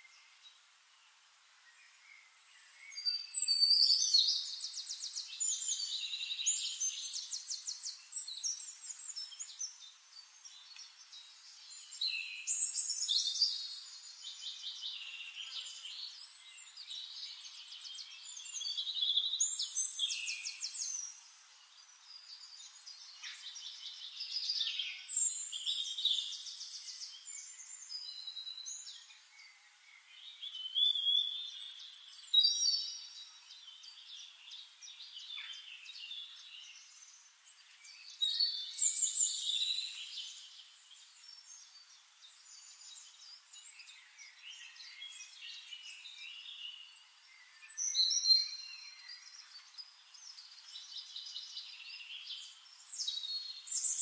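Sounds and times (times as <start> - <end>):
birds chirping and trilling: 1.7 - 54.0.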